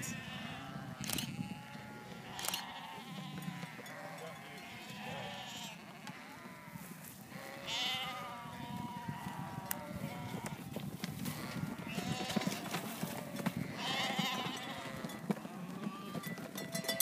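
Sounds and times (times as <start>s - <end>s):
sheep and lambs bleating: 0.0s - 16.4s.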